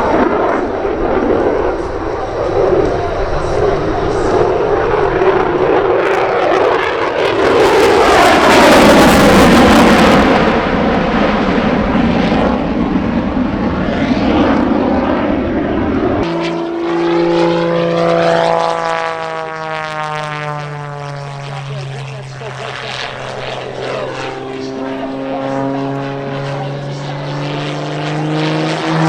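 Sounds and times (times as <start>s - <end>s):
propeller aircraft flying past: 0.0s - 29.0s.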